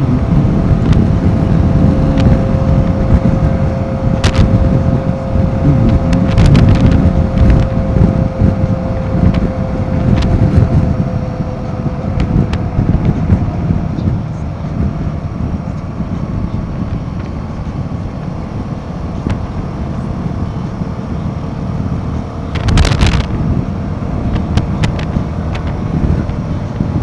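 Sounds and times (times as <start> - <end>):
motorcycle engine running: 0.0 - 27.0
thin whine: 0.0 - 27.0
wind buffeting microphone: 0.0 - 27.0.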